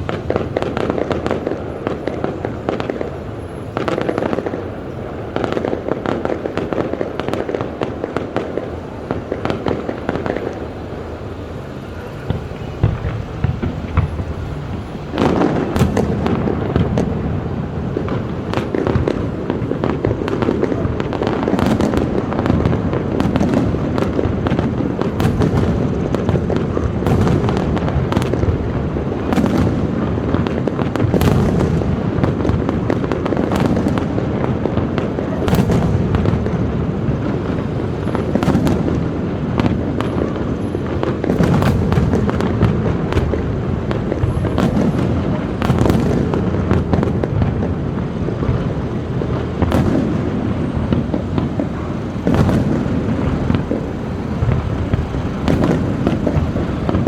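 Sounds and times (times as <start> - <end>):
fireworks bangs and crackles: 0.0 - 57.0
low rumble of bursting shells: 0.0 - 57.0.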